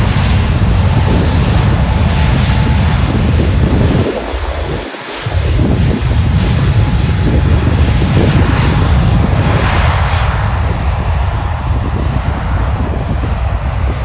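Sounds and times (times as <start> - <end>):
airliner engines roaring: 0.0 - 14.0
wind rumble on microphone: 0.0 - 14.0.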